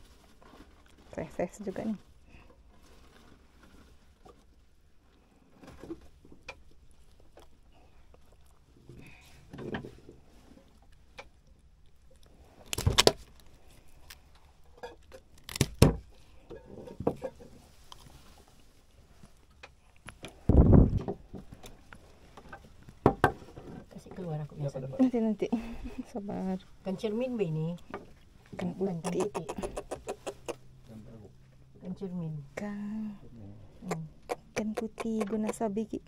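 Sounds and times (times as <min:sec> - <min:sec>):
rustles: 0:00.0 - 0:34.6.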